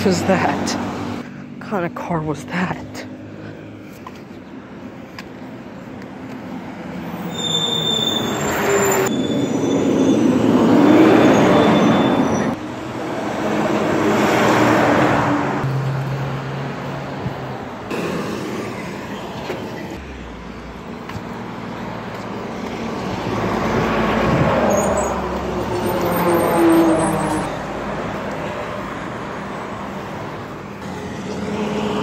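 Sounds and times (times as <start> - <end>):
trucks and cars passing: 0.0 - 32.0.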